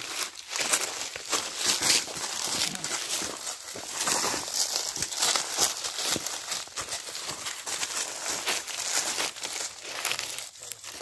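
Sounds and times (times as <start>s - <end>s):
footsteps crunching through dry leaves: 0.0s - 11.0s.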